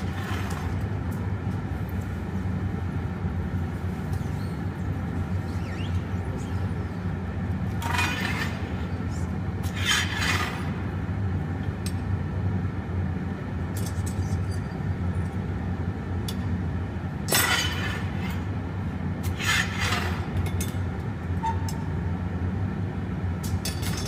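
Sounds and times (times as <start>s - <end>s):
low roar of furnace burners: 0.0s - 24.0s.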